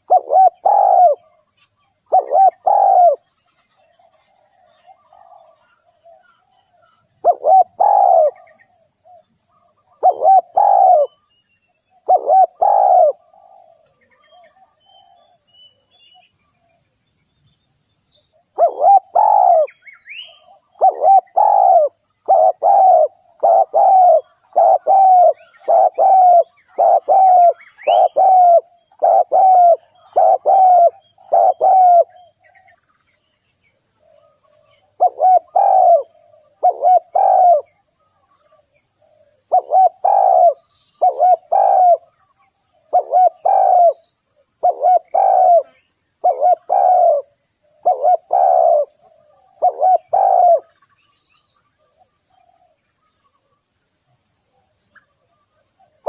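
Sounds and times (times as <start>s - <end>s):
dove cooing: 0.0s - 11.3s, 11.9s - 15.5s, 18.4s - 32.7s, 34.0s - 44.0s, 44.6s - 50.9s
small birds chirping: 0.0s - 56.0s.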